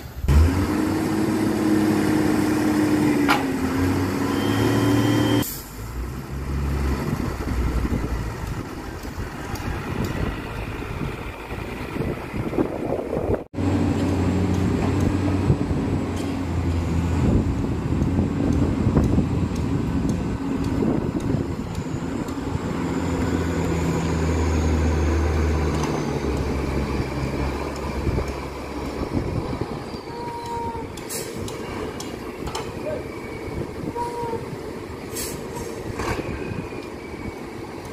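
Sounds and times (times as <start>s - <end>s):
heavy diesel truck engine running: 0.0s - 37.9s.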